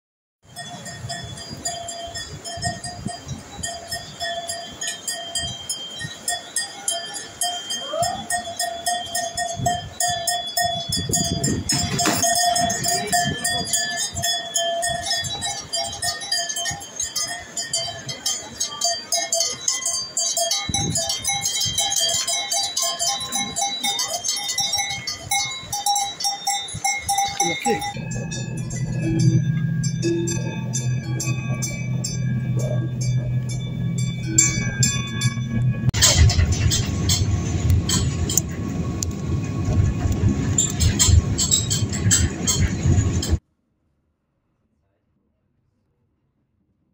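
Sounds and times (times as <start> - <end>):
cowbells clanking: 0.4 - 43.4
steady ringing tone: 0.4 - 43.4.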